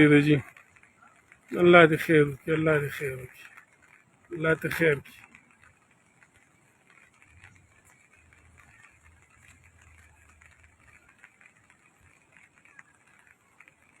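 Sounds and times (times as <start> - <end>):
light scattered crackle: 0.0 - 14.0.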